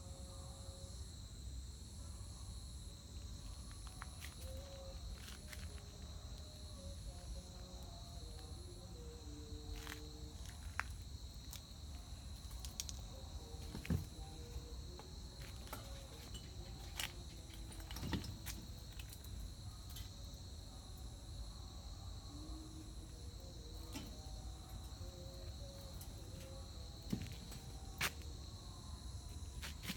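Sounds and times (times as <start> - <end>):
insects chirring: 0.1 - 29.9.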